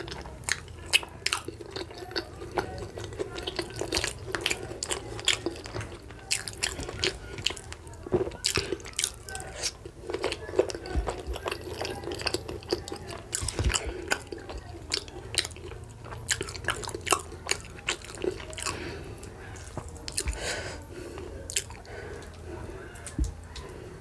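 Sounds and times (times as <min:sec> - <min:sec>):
wet chewing mouth clicks: 0:00.0 - 0:20.5.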